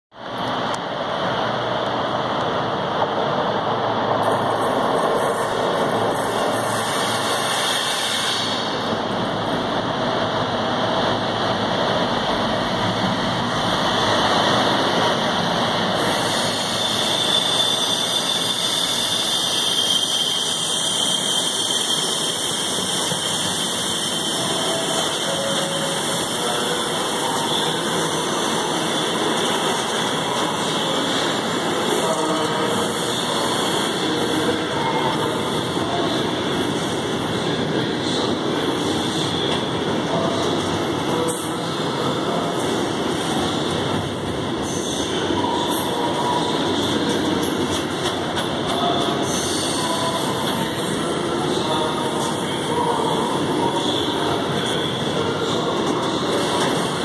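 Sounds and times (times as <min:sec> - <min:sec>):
wheels squealing on rails: 0:04.2 - 0:09.0, 0:13.0 - 0:57.0.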